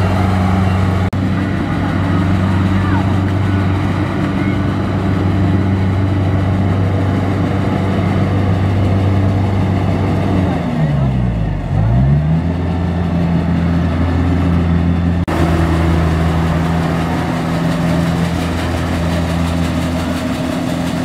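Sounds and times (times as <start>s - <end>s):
combine harvester diesel engine: 0.0s - 21.0s.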